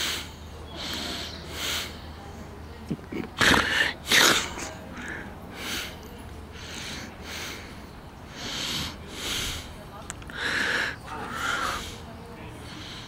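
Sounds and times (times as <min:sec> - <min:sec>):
short noisy breaths: 0:00.0 - 0:02.1, 0:03.4 - 0:13.0.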